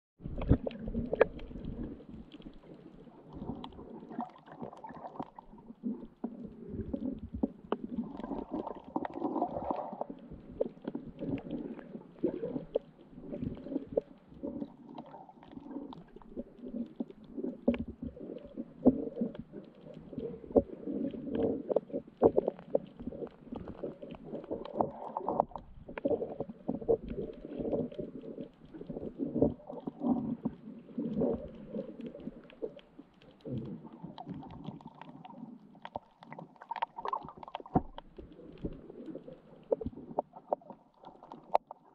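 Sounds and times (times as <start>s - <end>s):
underwater water sloshing: 0.2s - 41.9s.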